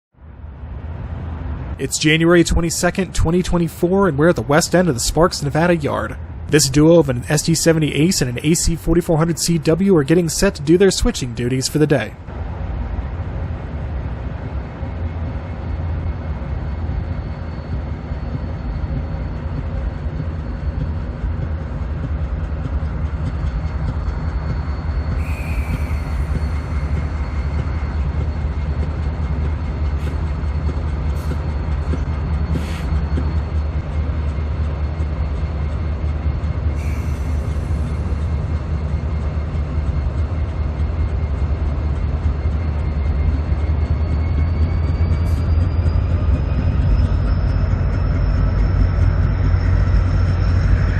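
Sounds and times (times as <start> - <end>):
diesel locomotive rumble: 0.2 - 50.9.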